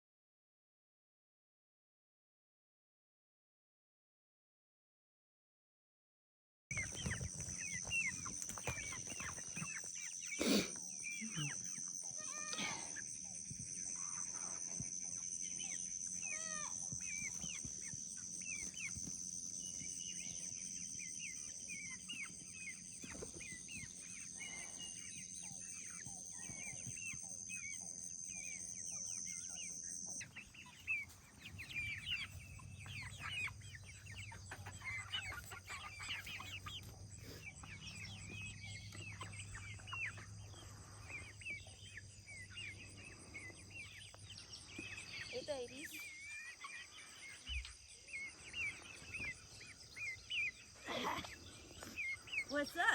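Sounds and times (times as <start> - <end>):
chickens clucking: 6.7 - 52.9.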